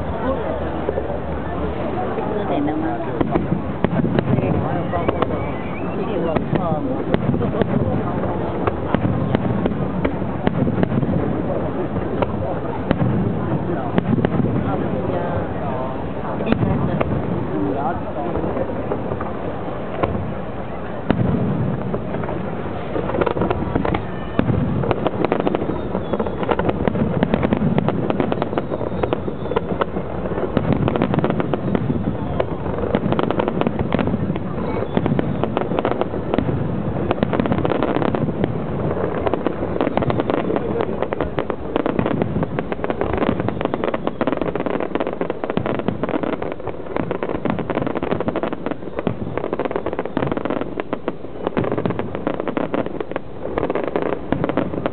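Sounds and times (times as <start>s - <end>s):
fireworks bangs and pops: 0.0s - 54.9s.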